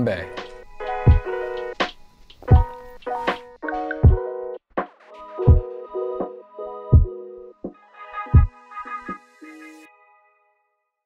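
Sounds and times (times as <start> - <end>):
background music with beat: 0.0 - 9.9.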